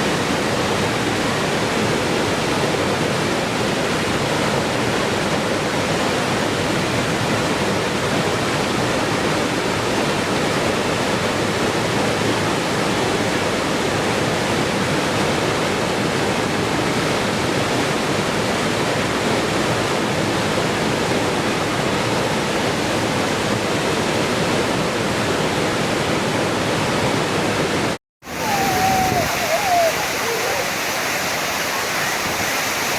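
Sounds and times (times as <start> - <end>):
rushing water: 0.0 - 32.9.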